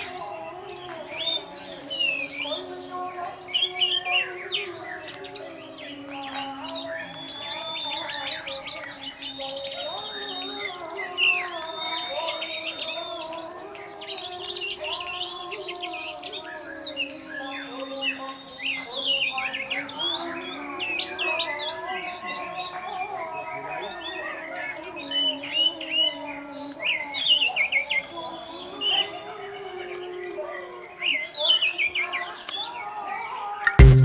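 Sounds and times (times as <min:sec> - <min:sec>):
bird singing chirps and whistles: 0:00.0 - 0:32.9.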